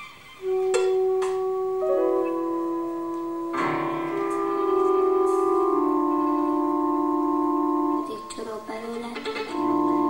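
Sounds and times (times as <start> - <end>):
held chord tones: 0.4 - 10.0.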